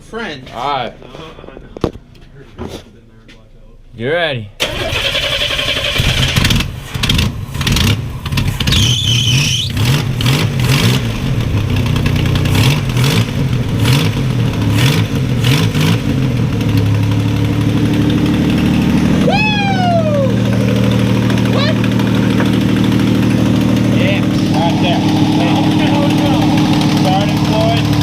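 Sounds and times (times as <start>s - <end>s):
pickup engine revving and idling: 5.6s - 28.0s.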